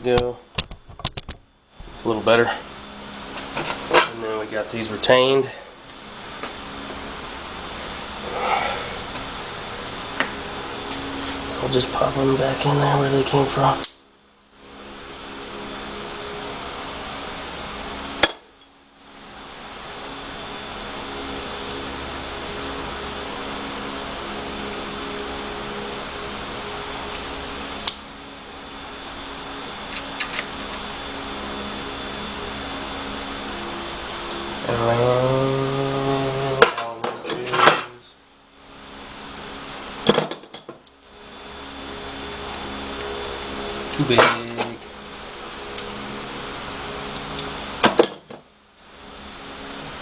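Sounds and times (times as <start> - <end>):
machine hum: 1.7 - 50.0.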